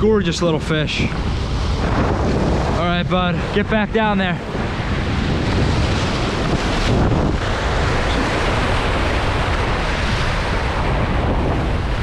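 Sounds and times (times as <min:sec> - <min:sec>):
wind buffeting microphone: 0:00.0 - 0:12.0
surf breaking over rocks: 0:00.4 - 0:12.0.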